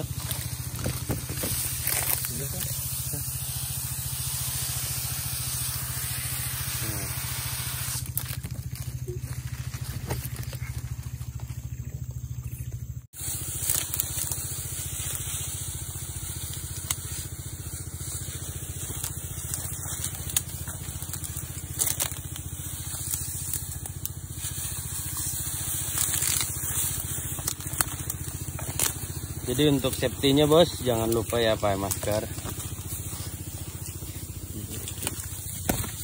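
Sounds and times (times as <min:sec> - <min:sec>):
dry fronds crunching and rustling: 0:00.0 - 0:04.1, 0:07.8 - 0:12.4, 0:13.2 - 0:36.0
small petrol engine running: 0:00.0 - 0:36.0.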